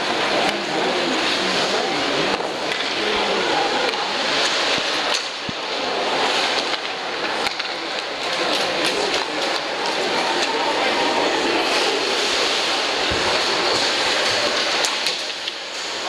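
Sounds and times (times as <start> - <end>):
arena crowd voices: 0.0 - 16.0.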